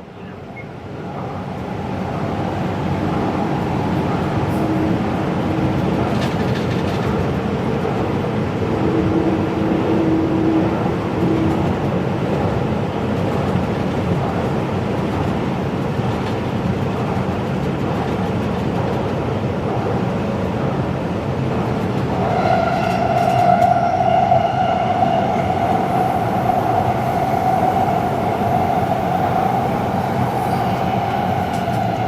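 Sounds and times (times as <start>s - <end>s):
train wheels rumbling: 1.1s - 32.0s.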